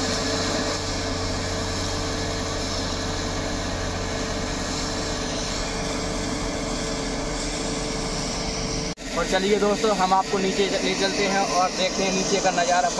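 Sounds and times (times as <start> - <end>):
pump mechanical hum: 0.0 - 12.9.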